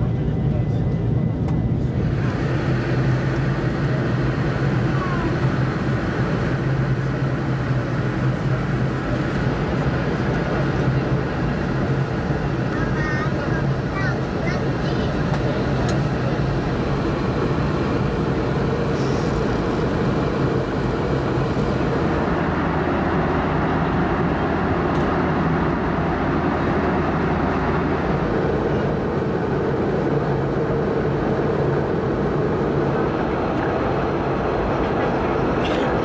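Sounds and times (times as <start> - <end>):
jet engine drone: 0.0 - 36.0
rushing air in airliner cabin: 0.0 - 36.0.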